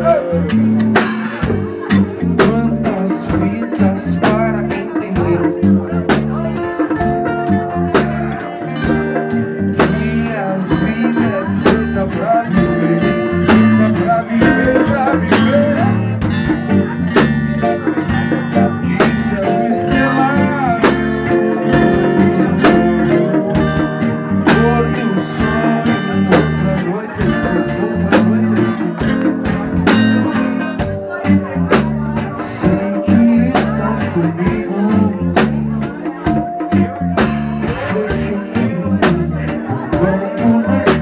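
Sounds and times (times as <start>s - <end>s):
bass: 0.0s - 41.0s
electric guitar with bent notes: 0.0s - 41.0s
steady drum beat: 0.0s - 41.0s.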